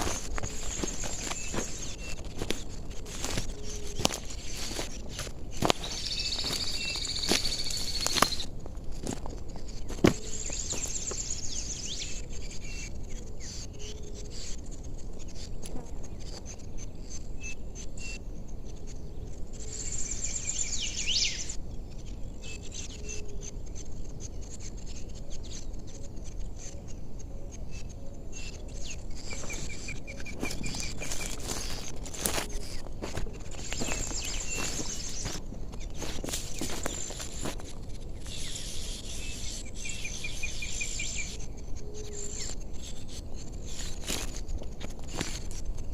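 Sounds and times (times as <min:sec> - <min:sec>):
birds chirping: 0:00.0 - 0:45.9
insects buzzing in trills: 0:00.0 - 0:45.9.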